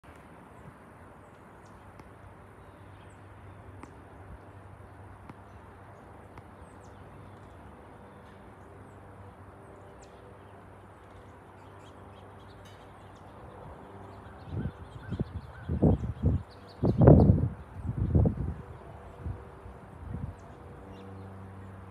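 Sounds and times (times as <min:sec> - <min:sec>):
birds chirping: 0:00.4 - 0:19.2.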